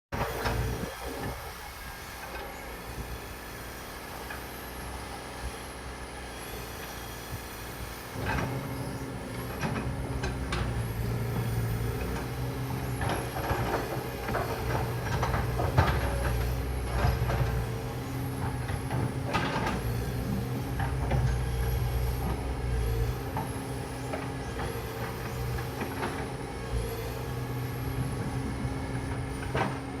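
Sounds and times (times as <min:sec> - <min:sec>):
heavy engine rumbling: 0:00.2 - 0:30.0.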